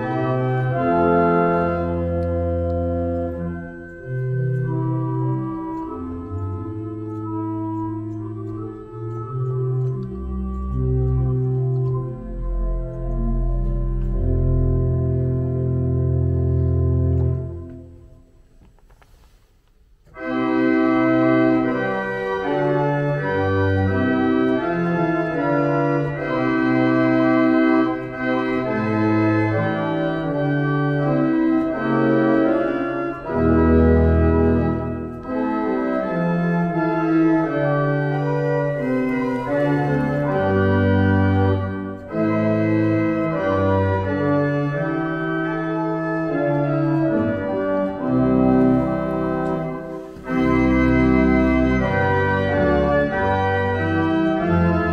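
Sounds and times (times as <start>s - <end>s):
pipe organ playing chords: 0.0s - 18.6s, 20.0s - 54.9s.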